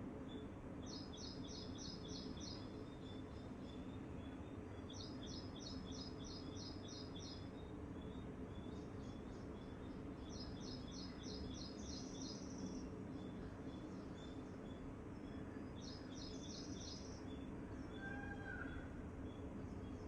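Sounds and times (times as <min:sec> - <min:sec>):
low background hiss: 0:00.0 - 0:20.0
songbird chirping: 0:00.0 - 0:20.0.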